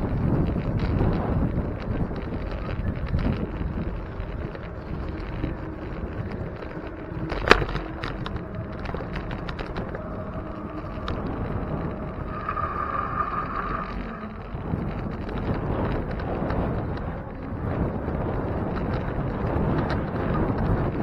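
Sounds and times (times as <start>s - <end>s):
road rumble: 0.0s - 21.0s
wind buffeting microphone: 0.0s - 21.0s.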